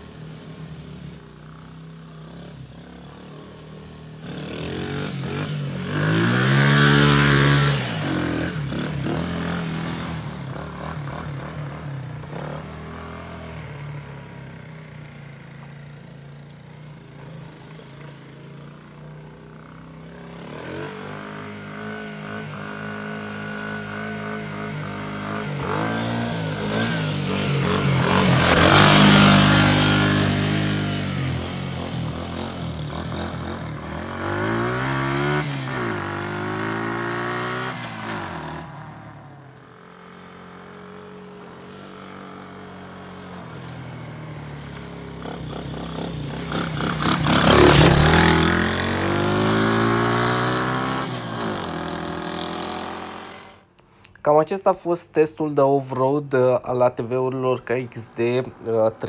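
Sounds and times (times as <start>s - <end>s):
quad bike engine revving: 0.9s - 53.7s.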